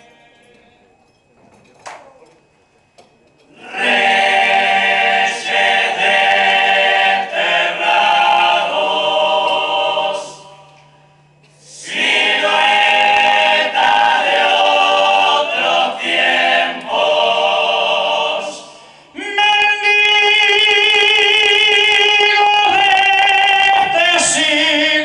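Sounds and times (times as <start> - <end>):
chorus singing a cappella: 3.5 - 25.0.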